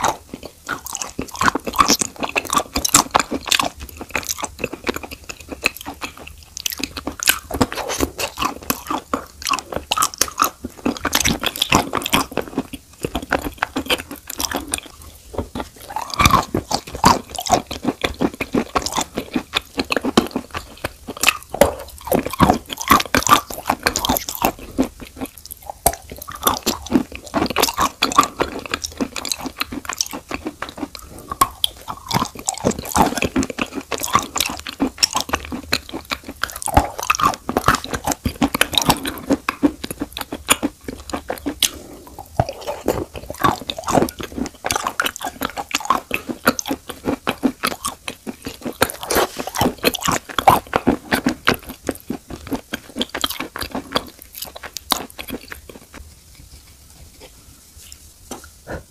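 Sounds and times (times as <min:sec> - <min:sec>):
crisp crunching and biting: 0:00.0 - 0:56.5.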